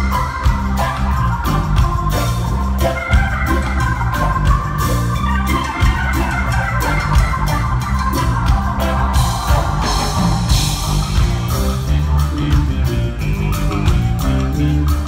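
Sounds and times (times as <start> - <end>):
live reggae rock band: 0.0 - 15.0.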